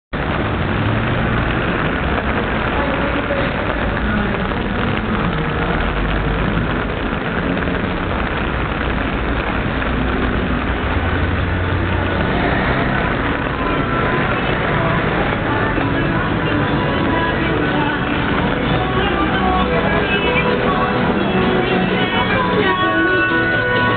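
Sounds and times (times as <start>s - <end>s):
tyres hissing on wet road: 0.2s - 23.9s
vehicle engines running: 0.2s - 23.9s.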